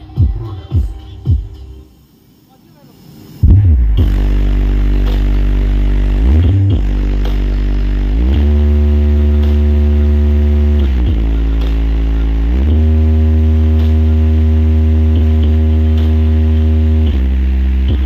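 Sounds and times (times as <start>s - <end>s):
loud low bass tone: 3.4s - 18.0s.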